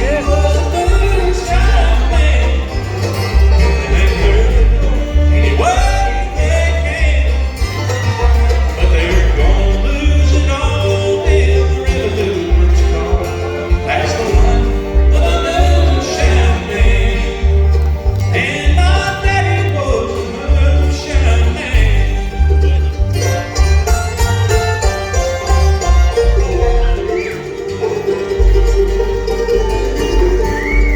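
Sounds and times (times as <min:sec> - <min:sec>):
banjo: 0:00.0 - 0:30.9
guitar: 0:00.0 - 0:30.9
pulsing bass line: 0:00.0 - 0:30.9.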